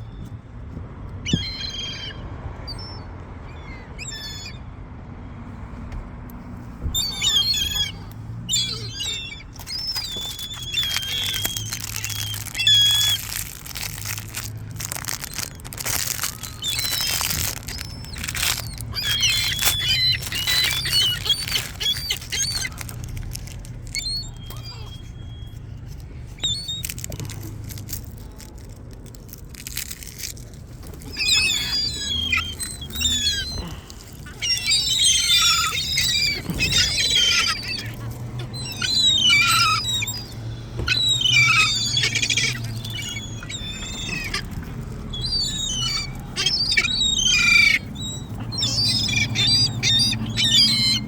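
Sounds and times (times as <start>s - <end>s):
gulls calling and squawking: 1.2s - 4.7s, 6.8s - 28.6s, 29.5s - 51.0s.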